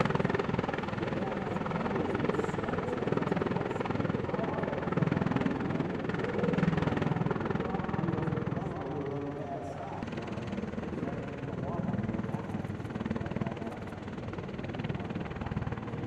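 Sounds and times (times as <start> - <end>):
helicopter rotor beat: 0.0 - 16.0.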